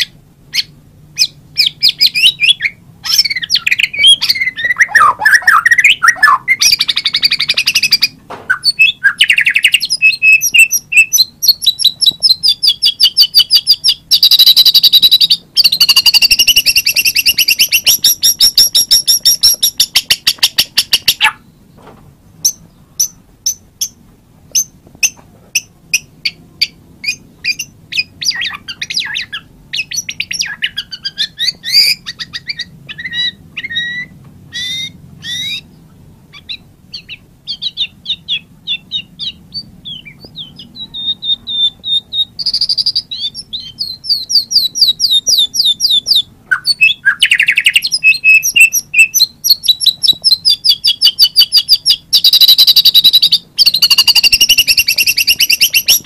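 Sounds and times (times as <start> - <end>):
bird singing varied song: 0.0 - 56.0
faint low hum: 0.0 - 56.0.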